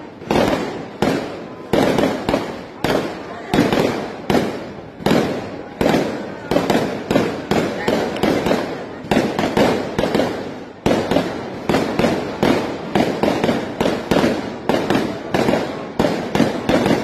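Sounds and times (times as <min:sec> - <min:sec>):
fireworks exploding: 0:00.0 - 0:17.0.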